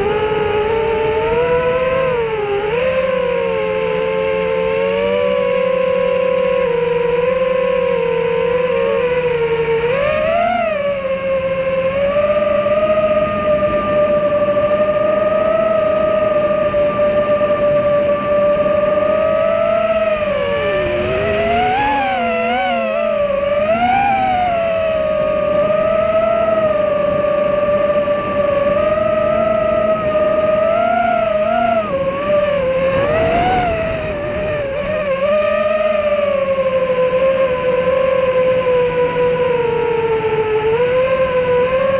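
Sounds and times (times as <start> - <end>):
drone motors and propellers whining: 0.0 - 41.9.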